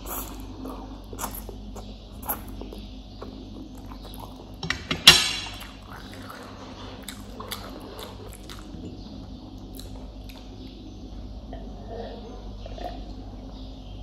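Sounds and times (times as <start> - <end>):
person chewing food: 0.0 - 4.6, 5.5 - 13.3.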